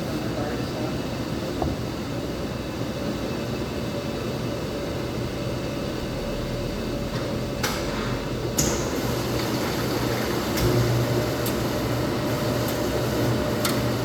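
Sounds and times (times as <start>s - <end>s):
laundromat machines humming: 0.0s - 14.0s.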